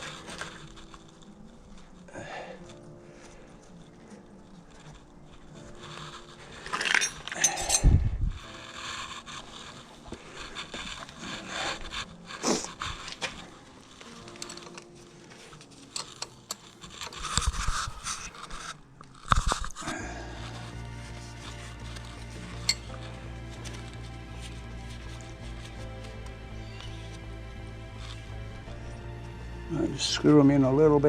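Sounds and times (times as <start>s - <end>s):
metal scraping and rubbing: 0.0s - 2.1s, 3.2s - 29.1s.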